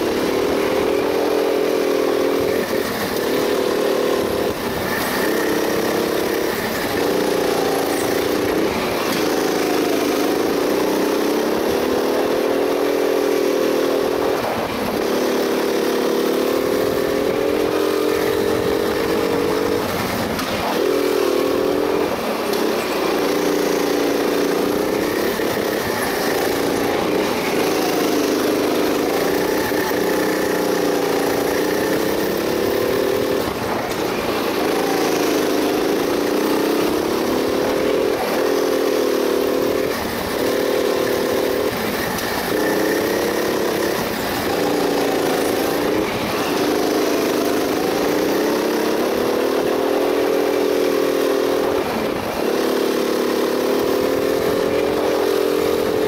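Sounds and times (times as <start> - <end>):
go-kart engine: 0.0 - 56.0.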